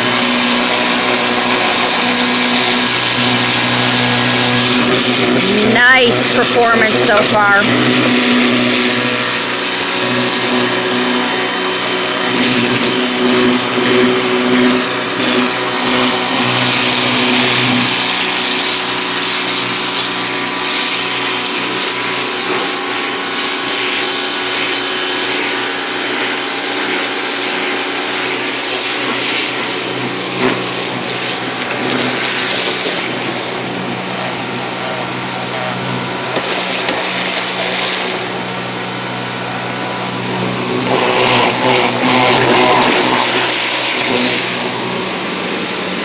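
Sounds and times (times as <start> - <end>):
pressure washer motor humming: 0.0 - 46.0
water jet hissing: 0.0 - 46.0.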